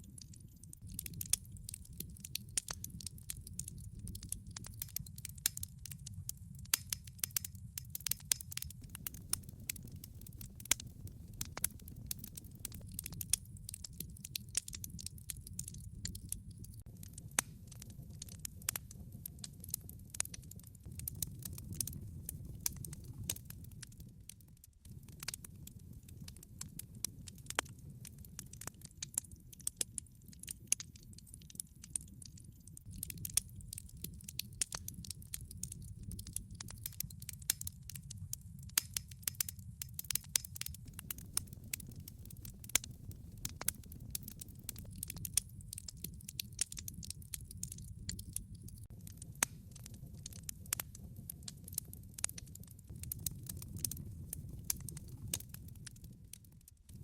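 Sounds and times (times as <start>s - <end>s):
logs crackling and popping: 0.0s - 57.0s
low roar of flames: 0.1s - 57.0s.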